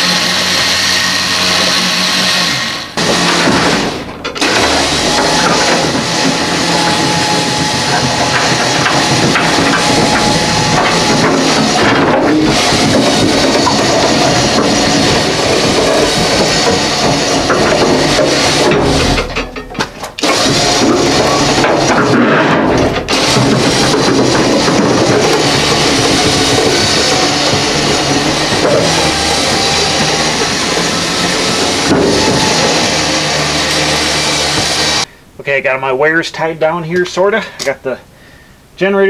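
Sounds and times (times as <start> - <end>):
casters rumbling on metal ramp: 3.0 - 35.1.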